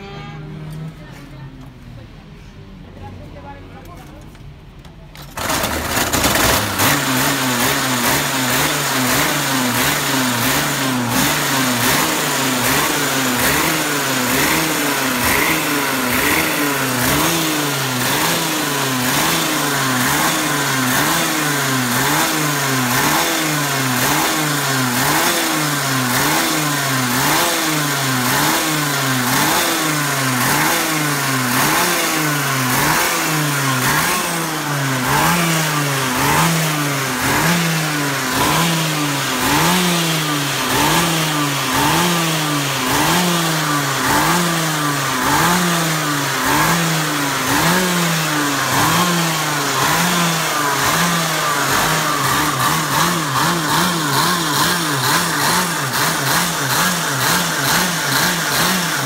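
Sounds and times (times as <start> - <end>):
two-stroke kart engine revving: 5.2 - 59.0.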